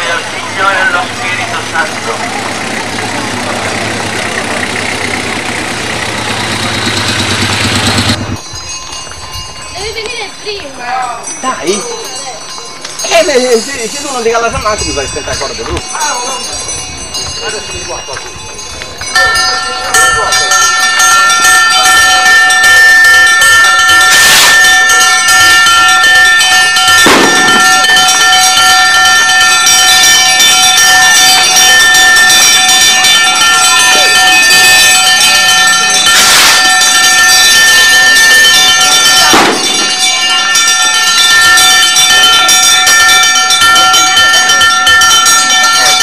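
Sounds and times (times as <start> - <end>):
bells ringing: 0.0 - 46.0.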